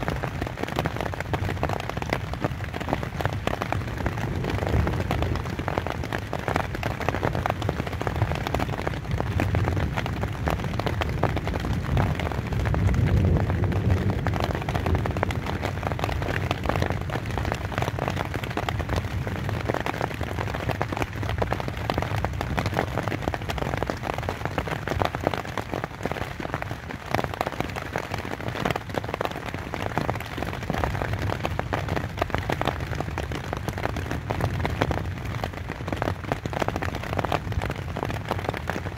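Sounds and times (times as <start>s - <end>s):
rain pattering on tent fabric: 0.0s - 38.9s.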